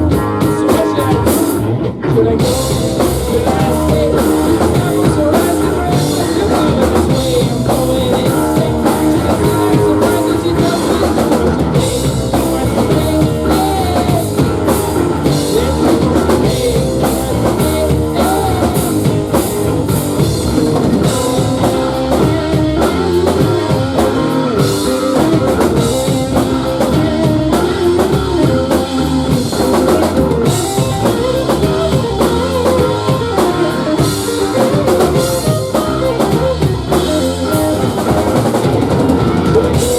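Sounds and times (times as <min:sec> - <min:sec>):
drum kit: 0:00.0 - 0:39.9
electric guitar: 0:00.0 - 0:39.9
rock band playing live: 0:00.0 - 0:39.9.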